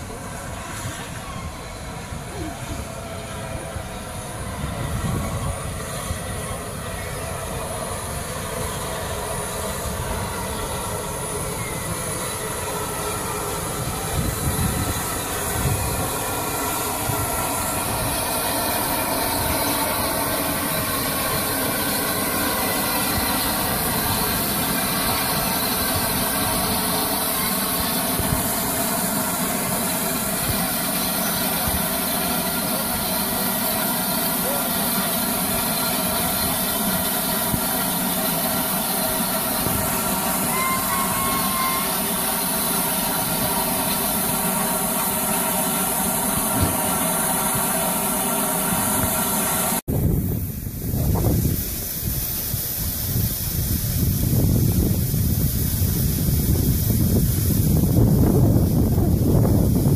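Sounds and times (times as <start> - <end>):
wheels and brakes squealing: 0.0 - 49.7
train rumble: 0.0 - 59.9.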